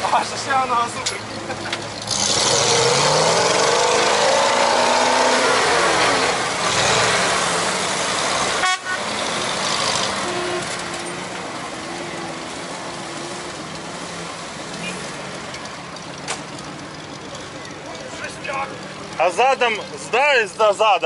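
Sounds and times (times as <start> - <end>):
truck engine revving: 0.0 - 20.8
engines running steadily: 0.0 - 21.0.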